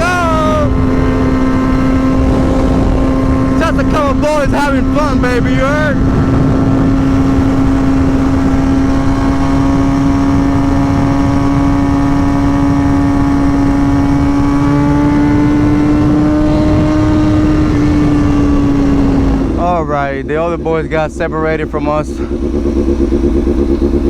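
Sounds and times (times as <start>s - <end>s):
motorcycle engine at high revs: 0.0s - 24.0s
wind rush on microphone: 0.0s - 24.0s.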